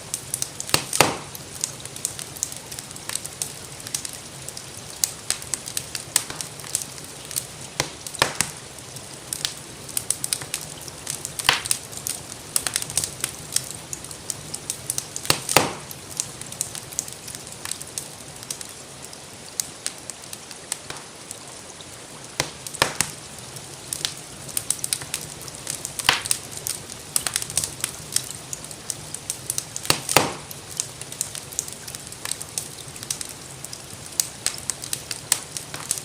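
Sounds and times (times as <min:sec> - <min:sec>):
rain hissing: 0:00.0 - 0:36.0
wood fire crackling: 0:00.0 - 0:36.0
loud fire pops: 0:00.1 - 0:04.2, 0:04.9 - 0:18.6, 0:20.8 - 0:21.3, 0:22.3 - 0:36.0.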